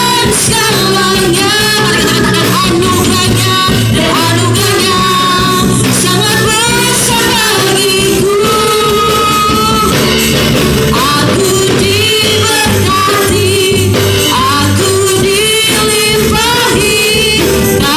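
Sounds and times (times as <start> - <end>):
bass line: 0.0 - 17.9
drums: 0.0 - 17.9.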